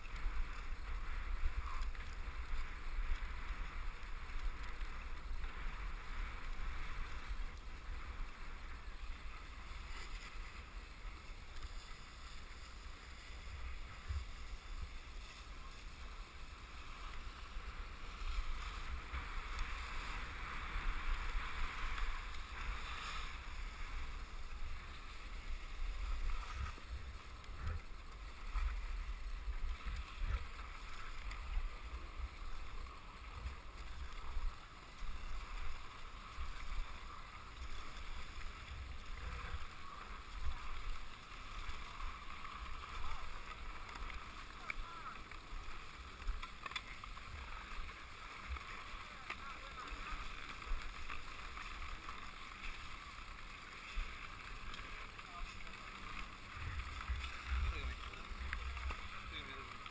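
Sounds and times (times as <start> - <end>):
skis sliding over snow: 0.0 - 59.9
wind rumbling on microphone: 0.0 - 59.9.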